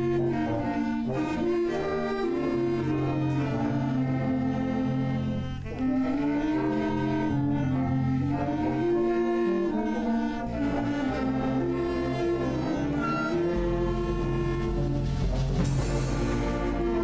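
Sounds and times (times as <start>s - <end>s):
slow instrumental music: 0.0s - 17.0s.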